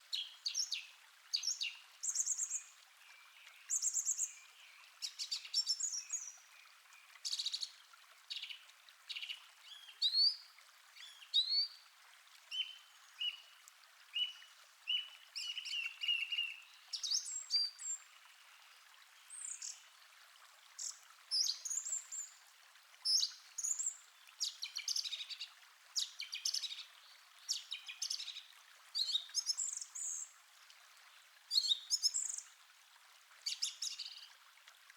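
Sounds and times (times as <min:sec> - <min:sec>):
calm stream rushing: 0:00.0 - 0:34.9.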